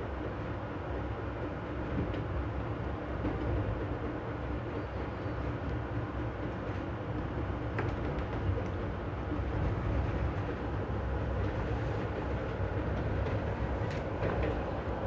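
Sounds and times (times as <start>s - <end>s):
train wheels rumbling on rail: 0.3s - 15.0s.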